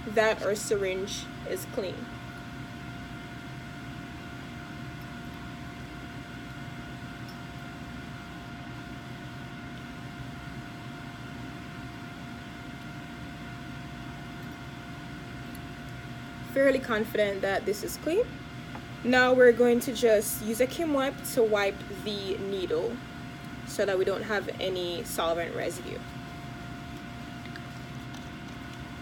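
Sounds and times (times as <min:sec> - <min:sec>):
faint constant whine: 0:00.0 - 0:29.0
fans and air handling hum: 0:00.0 - 0:29.0.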